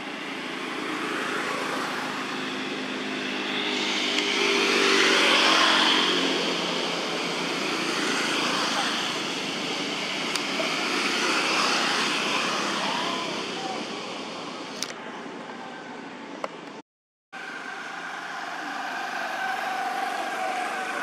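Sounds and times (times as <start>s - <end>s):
outdoor background noise: 0.0s - 16.8s, 17.4s - 21.0s.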